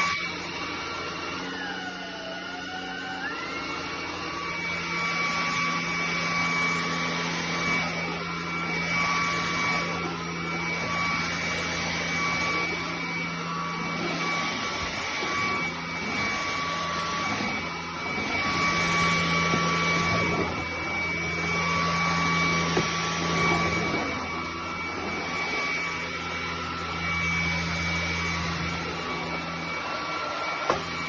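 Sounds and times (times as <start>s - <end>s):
stick vacuum running: 0.0s - 31.0s.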